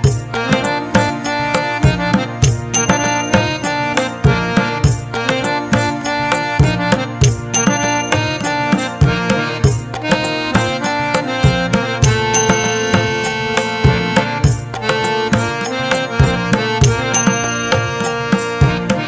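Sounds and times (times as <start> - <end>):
indian-style instrumental music: 0.0 - 19.0
tabla drumming: 0.0 - 19.0.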